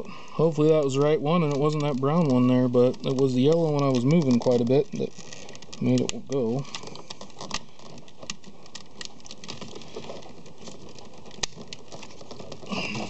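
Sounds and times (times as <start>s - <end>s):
plastic clicks and rattles: 0.6s - 13.0s.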